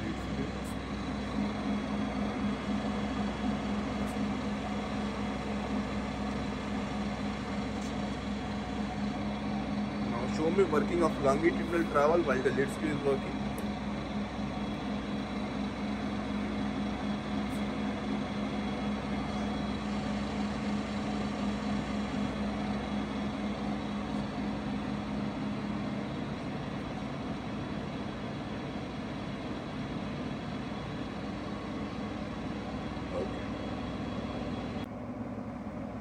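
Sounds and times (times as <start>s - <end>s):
lathe mechanical hum: 0.0s - 36.0s.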